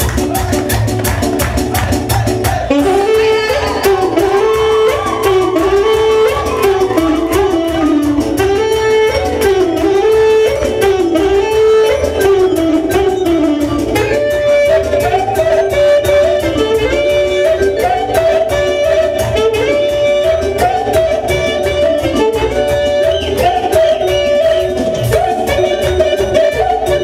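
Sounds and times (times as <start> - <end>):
folk dance music: 0.0 - 27.0.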